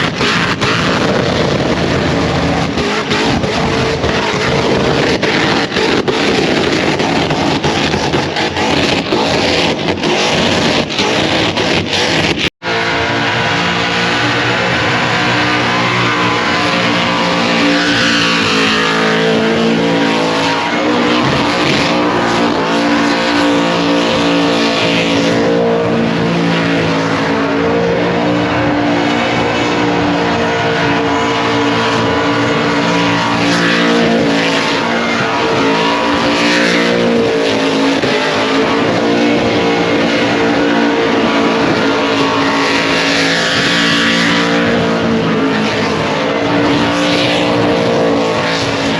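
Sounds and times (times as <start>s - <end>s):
car engine at high revs: 0.0s - 48.9s.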